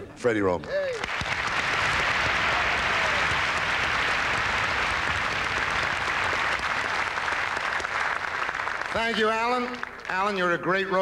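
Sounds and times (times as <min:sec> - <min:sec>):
audience applauding: 0:01.0 - 0:10.4.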